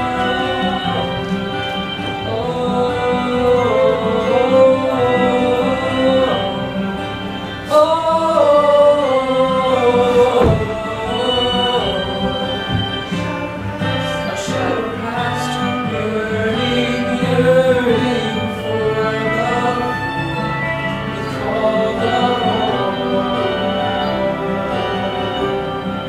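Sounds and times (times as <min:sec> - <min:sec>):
instrumental accompaniment: 0:00.0 - 0:26.0
person singing: 0:00.0 - 0:26.0.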